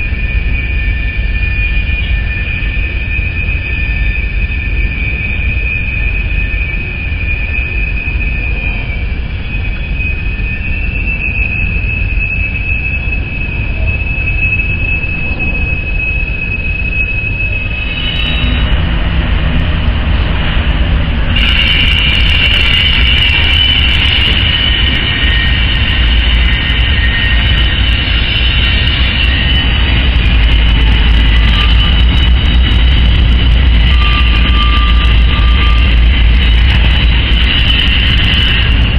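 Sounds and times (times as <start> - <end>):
low train rumble: 0.0 - 38.9
train wheels squealing: 0.0 - 38.9.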